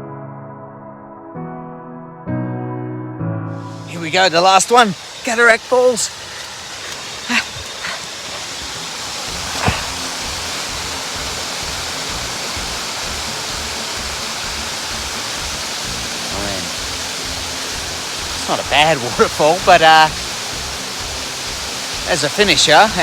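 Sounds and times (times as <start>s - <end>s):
waterfall roaring: 3.7s - 23.0s.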